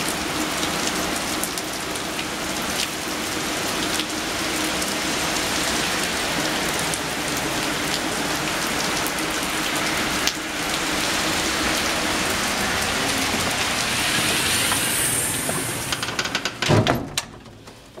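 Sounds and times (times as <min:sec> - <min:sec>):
heavy rain on trees and roof: 0:00.0 - 0:18.0.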